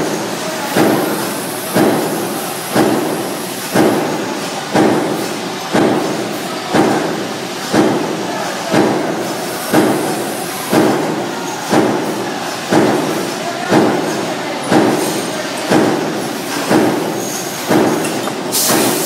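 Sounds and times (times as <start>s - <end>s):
continuous machine noise: 0.0s - 19.0s.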